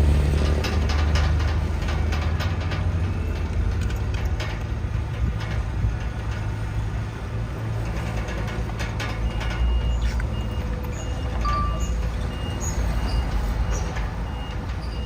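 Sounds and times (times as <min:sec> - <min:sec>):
heavy diesel engine running: 0:00.0 - 0:15.0
metallic clanks and knocks: 0:00.0 - 0:15.0.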